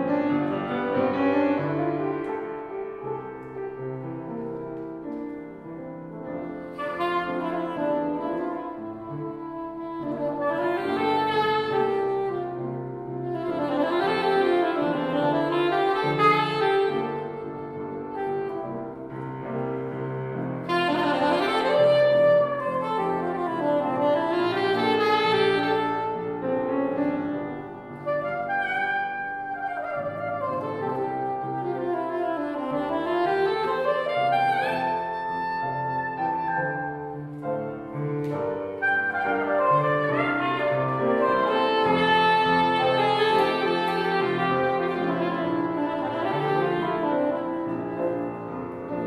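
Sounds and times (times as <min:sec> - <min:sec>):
piano chords: 0:00.0 - 0:49.0.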